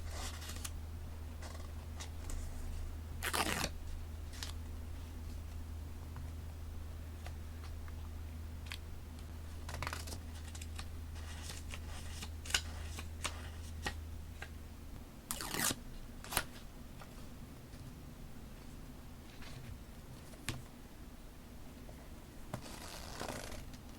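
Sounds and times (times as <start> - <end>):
low background hum: 0.0 - 23.9.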